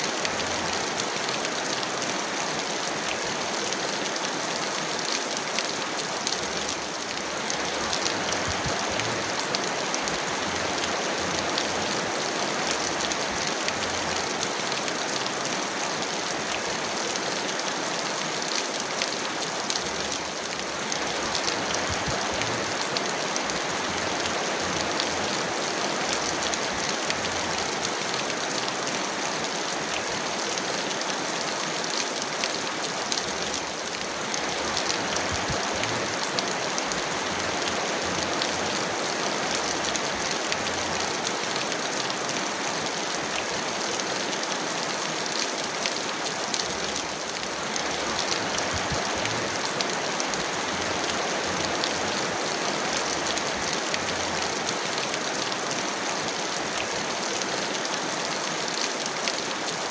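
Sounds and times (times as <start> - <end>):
heavy rain on hard surface: 0.0 - 59.9.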